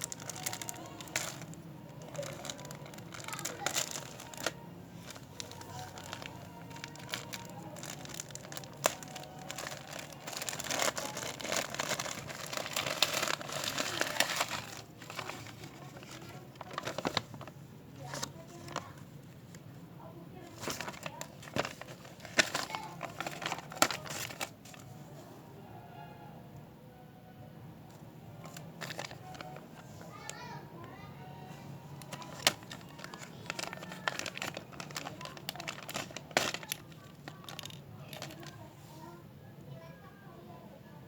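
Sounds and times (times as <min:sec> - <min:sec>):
plastic packaging crinkling: 0:00.0 - 0:19.6, 0:20.4 - 0:24.9, 0:28.4 - 0:30.5, 0:31.8 - 0:38.7.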